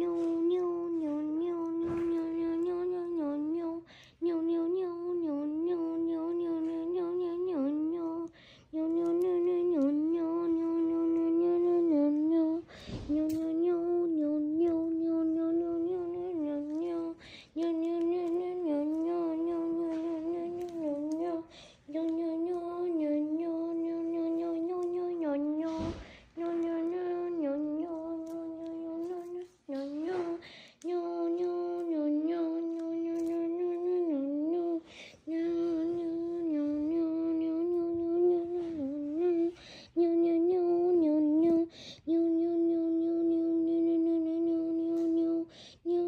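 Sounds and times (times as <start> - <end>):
person humming: 0.0 - 46.0.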